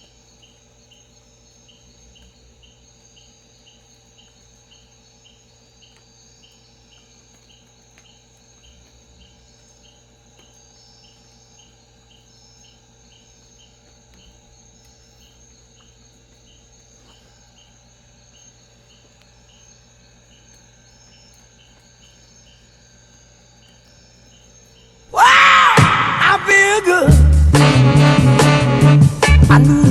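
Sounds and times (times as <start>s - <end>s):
crickets and insects: 0.0s - 26.2s.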